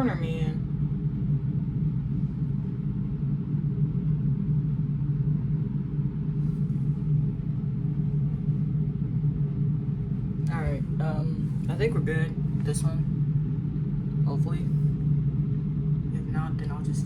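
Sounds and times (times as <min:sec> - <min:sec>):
low mechanical hum and rumble: 0:00.0 - 0:17.0.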